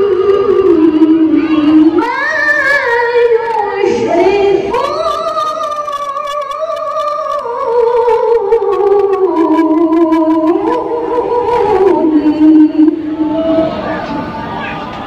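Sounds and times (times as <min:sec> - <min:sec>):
woman reciting melodically: 0:00.0 - 0:13.8.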